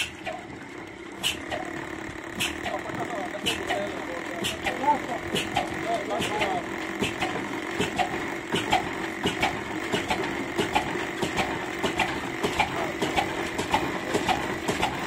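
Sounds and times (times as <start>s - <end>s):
diesel engine knocking slowly: 0.0s - 15.0s.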